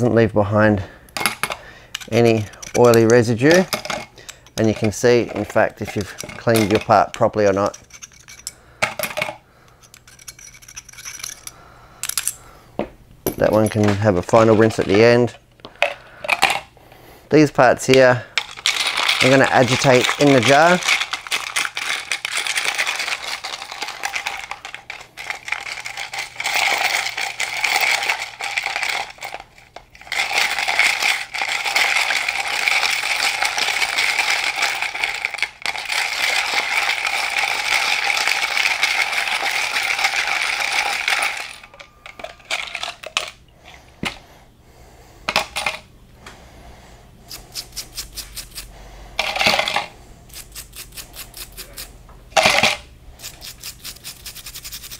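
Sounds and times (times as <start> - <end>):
metal parts rattling in jar: 1.2 - 12.4, 13.3 - 16.7, 17.8 - 43.4, 47.4 - 54.9.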